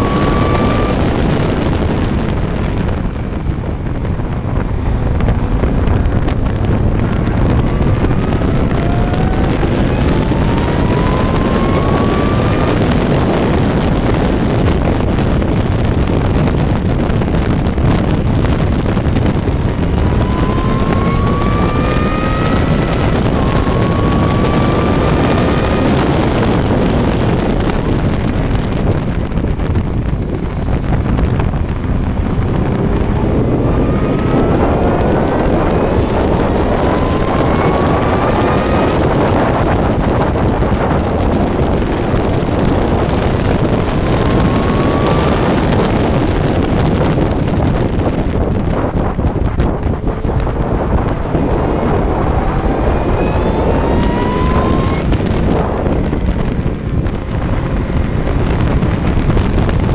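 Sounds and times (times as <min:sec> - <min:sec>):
engine revving through gears: 0:00.0 - 0:59.9
wind noise on microphone: 0:00.0 - 0:59.9.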